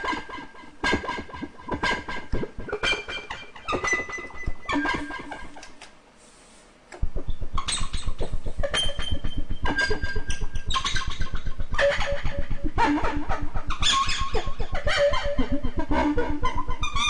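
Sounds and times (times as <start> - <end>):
throbbing buzzy synth tone: 0.0 - 5.7, 7.0 - 17.0
bright synth notes: 0.9 - 5.7, 7.0 - 17.0
synthesizer held tone: 1.0 - 5.6, 7.0 - 17.0.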